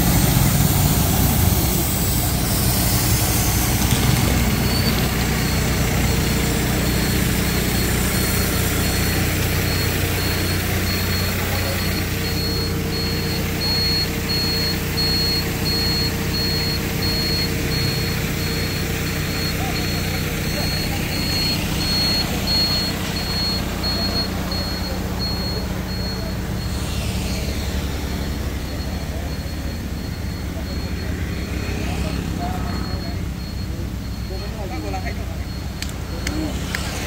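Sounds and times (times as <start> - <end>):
diesel engine running: 0.0 - 37.0
electronic warning beeps: 0.1 - 37.0.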